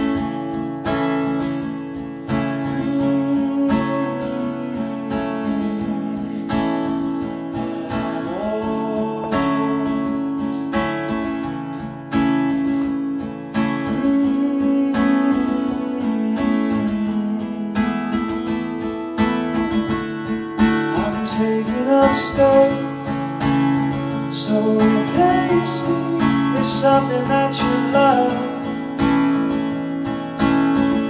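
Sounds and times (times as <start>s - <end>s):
lap steel guitar playing: 0.0s - 31.0s.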